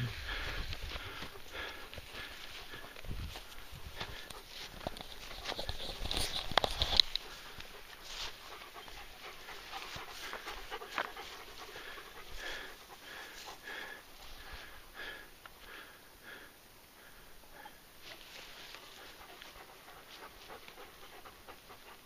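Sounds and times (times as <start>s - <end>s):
dog panting: 0.2s - 15.9s, 18.4s - 22.0s.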